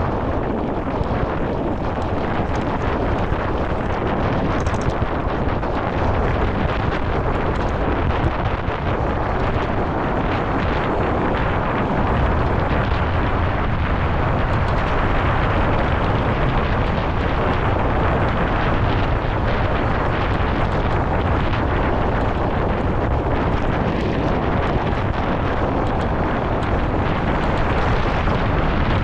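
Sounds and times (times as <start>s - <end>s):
light rattles: 0.0s - 29.0s
tyre and trail noise: 0.0s - 29.0s
wind rumbling over microphone: 0.0s - 29.0s.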